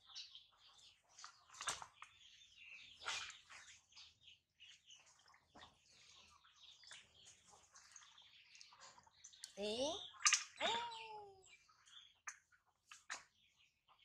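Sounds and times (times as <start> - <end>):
water splashing in basins: 0.7 - 13.4.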